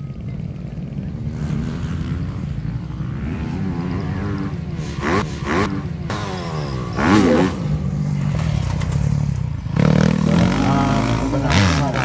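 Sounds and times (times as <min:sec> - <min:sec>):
racing motorcycles revving hard: 0:01.1 - 0:12.0.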